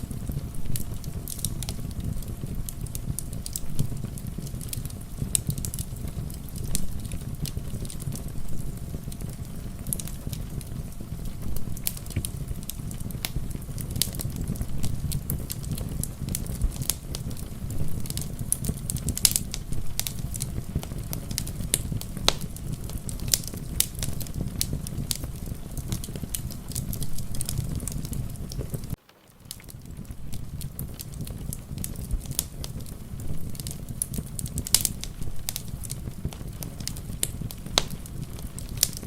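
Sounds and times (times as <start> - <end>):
soft rain: 0.0 - 39.0
wood fire crackling: 0.0 - 39.0.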